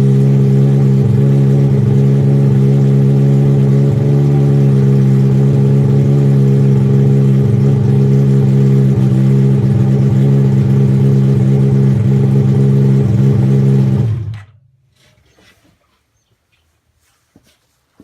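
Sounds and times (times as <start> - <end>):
small engine idling: 0.0 - 14.6.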